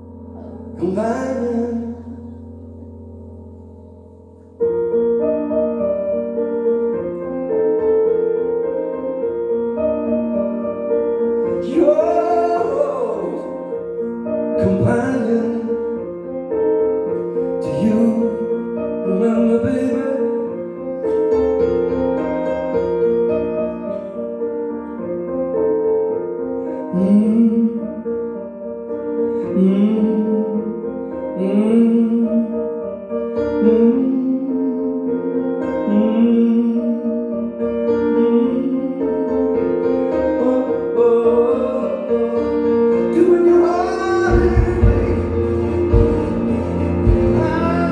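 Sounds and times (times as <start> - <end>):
keyboard chords: 0.0 - 47.9.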